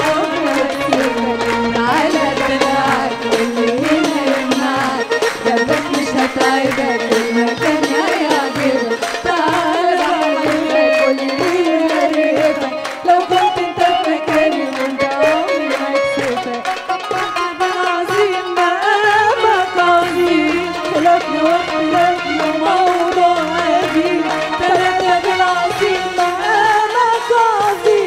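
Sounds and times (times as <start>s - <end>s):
women singing a duet: 0.0s - 16.7s, 17.6s - 28.0s
percussion beat: 0.0s - 28.0s.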